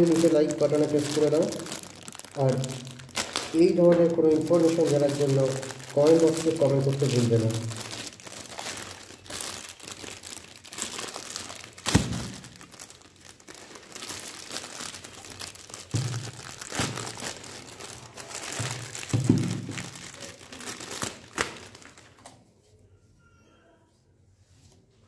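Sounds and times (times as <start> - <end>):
plastic bag crinkling: 0.0 - 22.3.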